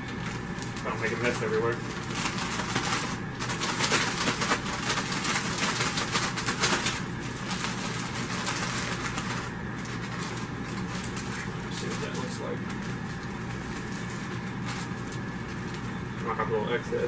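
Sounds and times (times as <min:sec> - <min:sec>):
plastic bag crinkling: 0:00.0 - 0:16.4.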